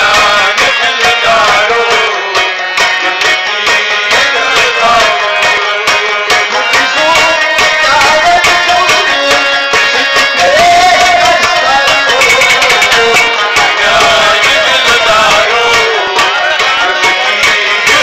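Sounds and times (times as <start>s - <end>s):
instrumental accompaniment: 0.0s - 18.0s
man singing folk song: 0.0s - 18.0s
rhythmic percussion: 0.0s - 18.0s.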